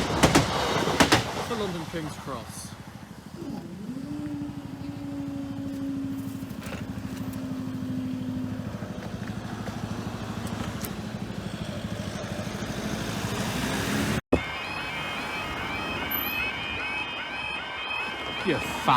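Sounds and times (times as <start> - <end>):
diesel train passing: 0.0 - 18.9.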